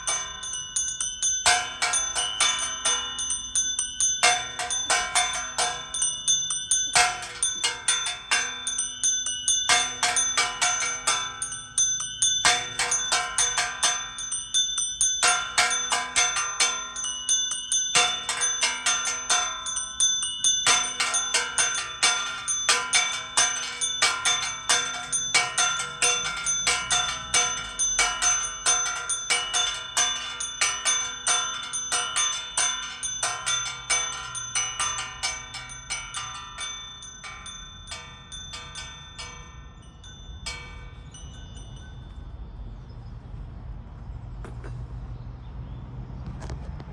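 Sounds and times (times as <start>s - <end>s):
church bells pealing: 0.0s - 43.0s.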